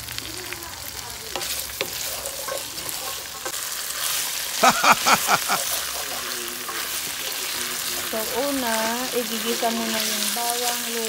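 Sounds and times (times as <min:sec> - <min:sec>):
food sizzling in a pot: 0:00.0 - 0:11.0
wooden spatula stirring: 0:01.3 - 0:10.9.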